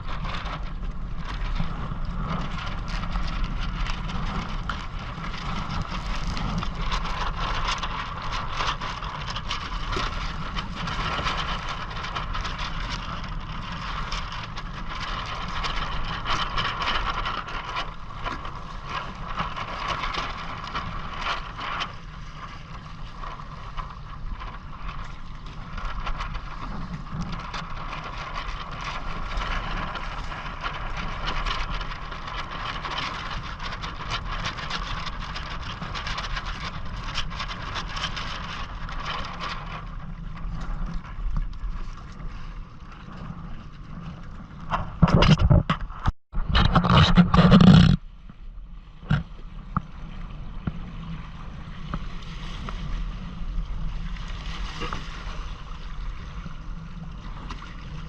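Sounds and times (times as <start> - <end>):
low rumble: 0.0 - 58.0
water noise: 0.0 - 58.0
wind: 0.0 - 58.0.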